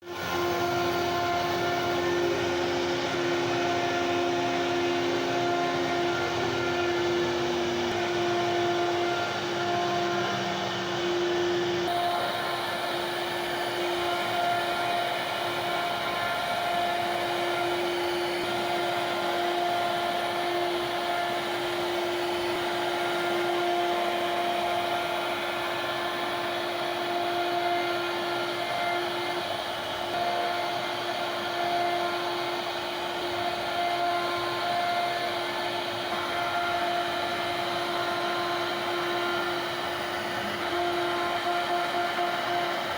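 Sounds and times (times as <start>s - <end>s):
router spindle high whine: 0.0s - 42.9s.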